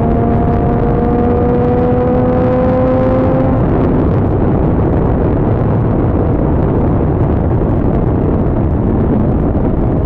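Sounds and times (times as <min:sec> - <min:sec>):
motorcycle engine cruising: 0:00.0 - 0:10.0
wind rush on microphone: 0:00.0 - 0:10.0.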